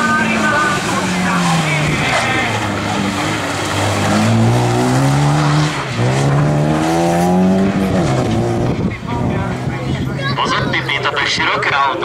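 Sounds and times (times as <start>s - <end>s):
car engine accelerating hard: 0.0s - 11.1s.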